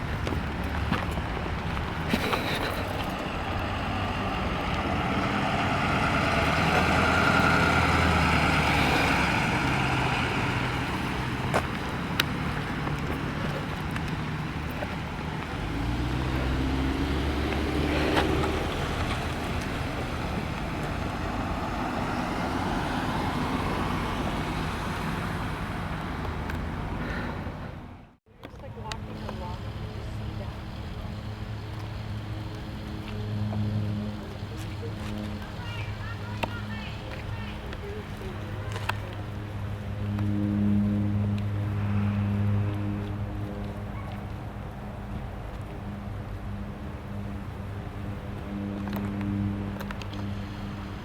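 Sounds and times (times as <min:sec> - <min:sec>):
road traffic passing: 0:00.0 - 0:51.0.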